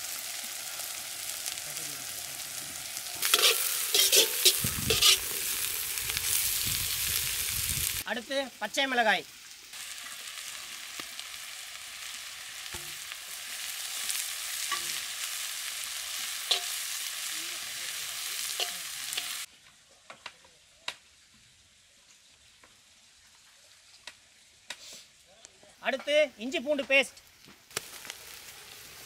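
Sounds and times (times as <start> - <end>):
onions sizzling in hot oil: 0.0 - 19.5, 20.2 - 25.1, 26.0 - 29.0.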